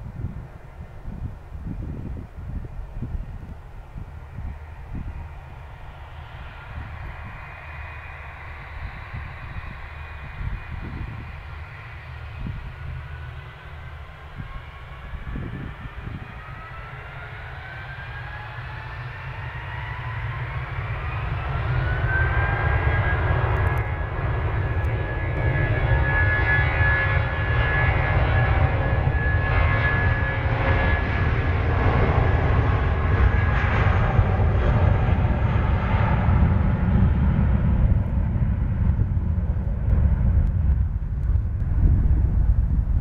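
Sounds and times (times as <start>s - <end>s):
jet engines spooling up: 1.6s - 43.0s.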